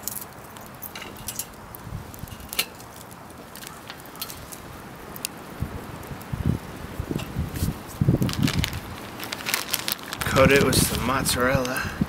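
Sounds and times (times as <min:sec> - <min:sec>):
bread frying in skillet: 0:00.0 - 0:11.8
fire crackling pops: 0:00.0 - 0:12.0.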